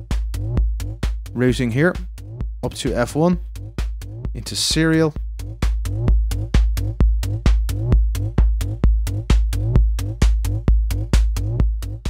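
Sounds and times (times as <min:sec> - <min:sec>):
electronic kick drum: 0:00.0 - 0:12.0.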